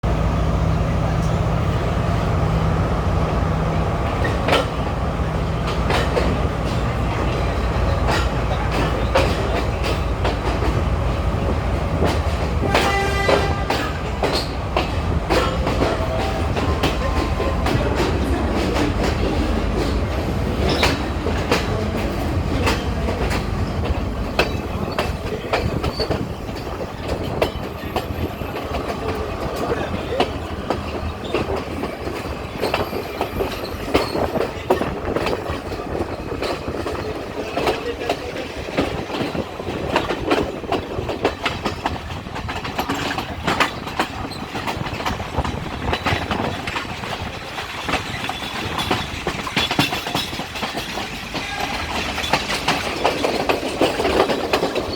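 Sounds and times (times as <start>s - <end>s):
train wheels clickety-clack: 0.0s - 54.9s.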